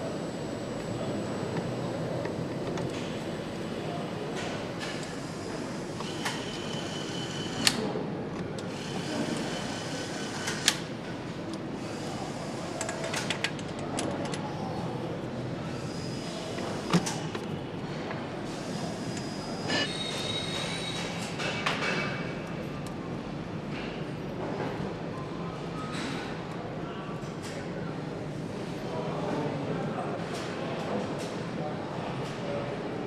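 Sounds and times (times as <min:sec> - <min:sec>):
factory hum: 0:00.0 - 0:33.0.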